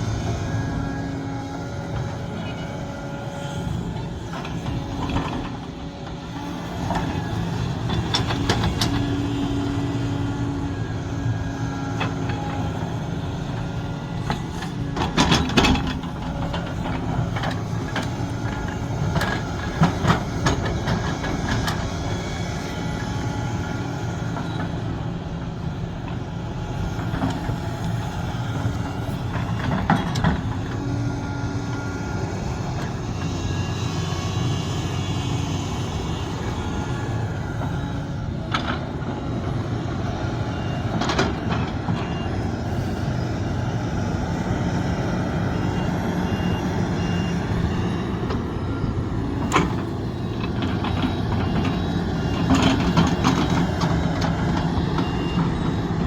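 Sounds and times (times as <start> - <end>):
excavator diesel engine humming: 0.0 - 56.0.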